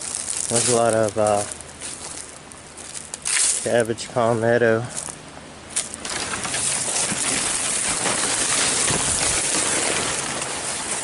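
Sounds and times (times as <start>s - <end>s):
dry fronds and brush rustling: 0.0s - 11.0s.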